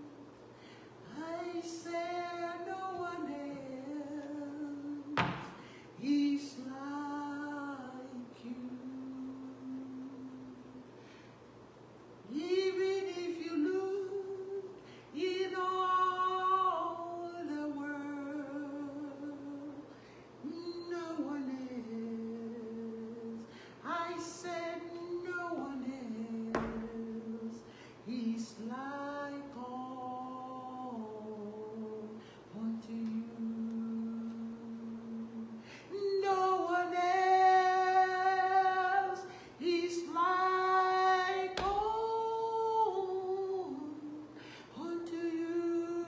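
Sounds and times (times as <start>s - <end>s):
woman singing unaccompanied: 1.0s - 10.9s, 12.3s - 46.0s.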